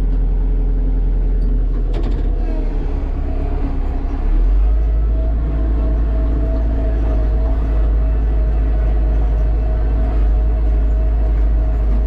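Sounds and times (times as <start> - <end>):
steady engine whine: 0.0 - 12.0
tractor diesel engine drone: 0.0 - 12.0.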